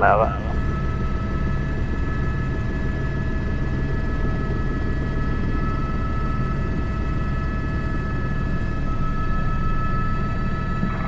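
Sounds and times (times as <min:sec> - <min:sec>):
helicopter engine and rotor throb: 0:00.0 - 0:11.0
turbine whine: 0:00.0 - 0:11.0.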